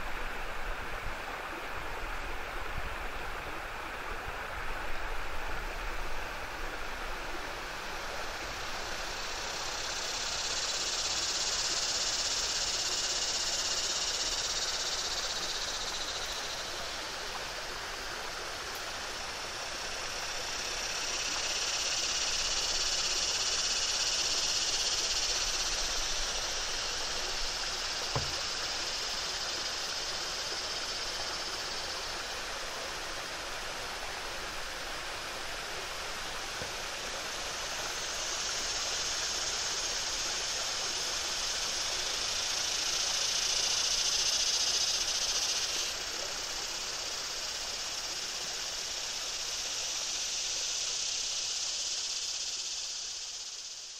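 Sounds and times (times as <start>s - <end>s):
cicadas droning: 0.0s - 53.9s.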